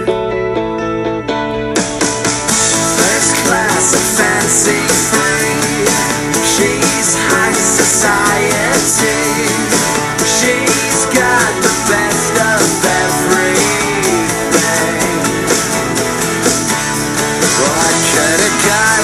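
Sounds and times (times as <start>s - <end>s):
rock music with guitar and drums: 0.0s - 19.0s.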